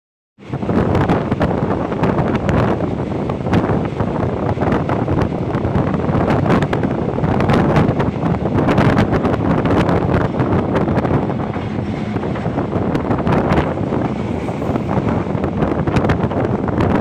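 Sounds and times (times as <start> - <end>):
train running noise: 0.4 - 17.0
wind buffeting microphone: 0.4 - 17.0.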